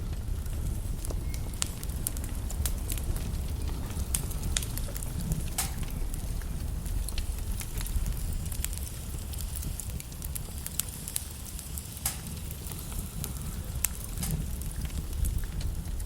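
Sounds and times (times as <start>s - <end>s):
logs crackling and popping: 0.0s - 16.0s
low rumble and hiss of flames: 0.0s - 16.0s.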